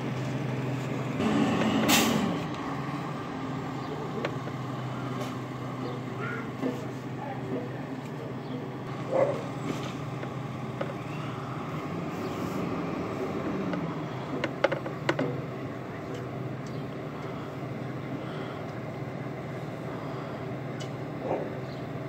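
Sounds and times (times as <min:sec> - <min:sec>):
garbage truck engine humming: 0:00.0 - 0:22.0.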